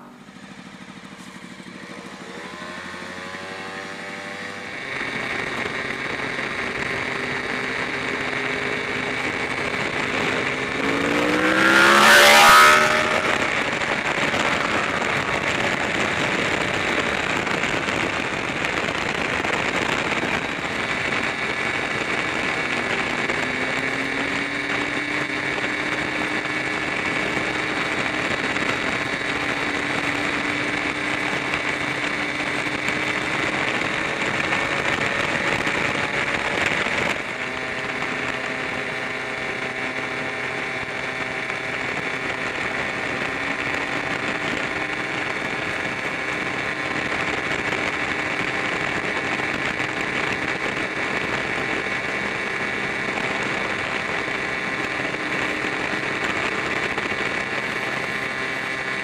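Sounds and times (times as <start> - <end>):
road and wind noise: 0.0 - 59.0
scooter engine running: 0.0 - 59.0.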